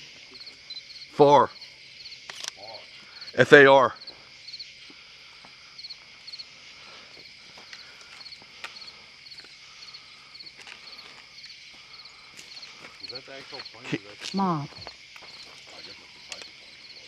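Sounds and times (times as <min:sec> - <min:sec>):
crickets chirping: 0:00.0 - 0:17.0
steady insect drone: 0:00.0 - 0:17.0.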